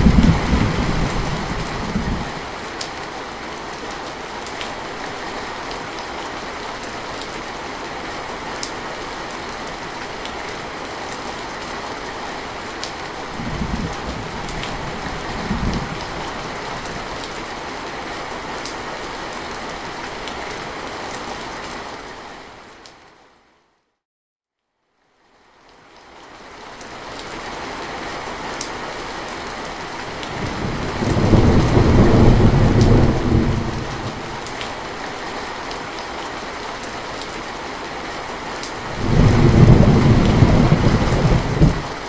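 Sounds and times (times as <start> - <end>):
steady rain falling: 0.0 - 23.6, 25.0 - 42.0.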